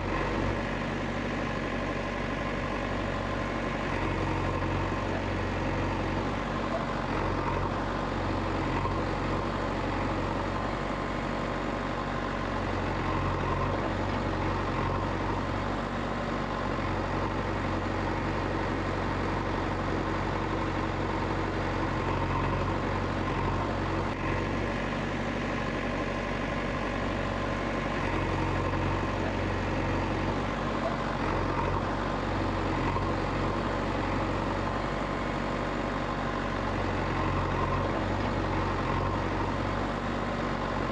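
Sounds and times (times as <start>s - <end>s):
motor humming steadily: 0.0s - 40.9s.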